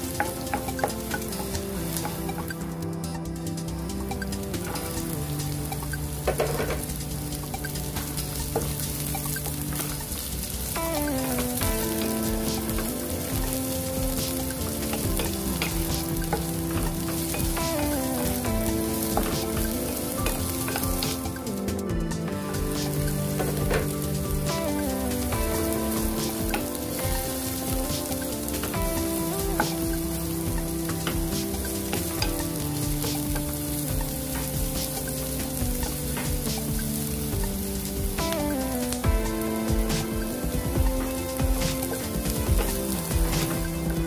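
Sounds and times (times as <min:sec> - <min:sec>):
onion and garlic sizzling in oil: 0:00.0 - 0:44.0
soft background music: 0:00.0 - 0:44.0.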